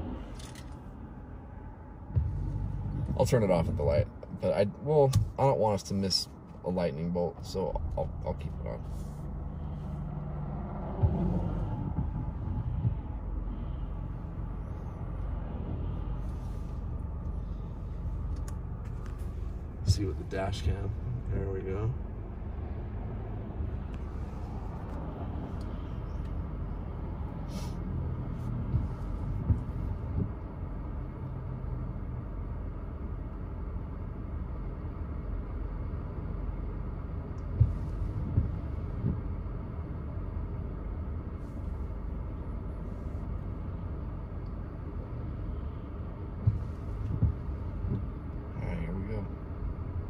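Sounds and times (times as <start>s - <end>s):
car idling rumble: 0.0s - 50.0s.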